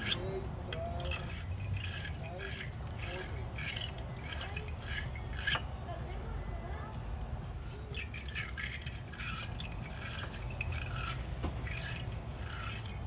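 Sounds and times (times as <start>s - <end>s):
wire brush scrubbing metal: 0.0s - 5.7s, 7.9s - 13.0s.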